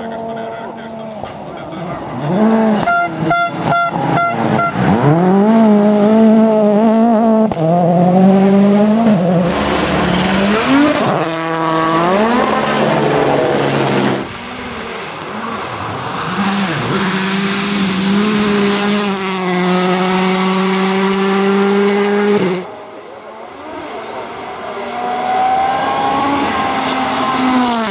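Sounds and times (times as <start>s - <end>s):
rally car engine at high revs: 0.0s - 27.9s.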